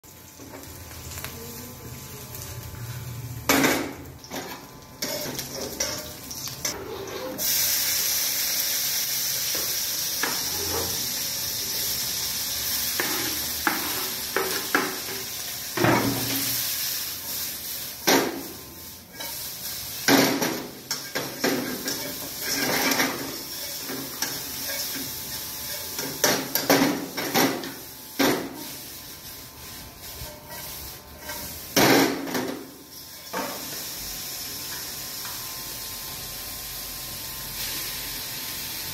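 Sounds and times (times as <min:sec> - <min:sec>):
vegetables sizzling in wok: 0:00.0 - 0:38.9.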